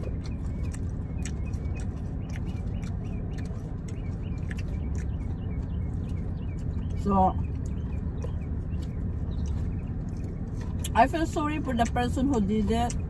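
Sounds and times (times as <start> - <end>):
low hum in car: 0.0 - 13.0.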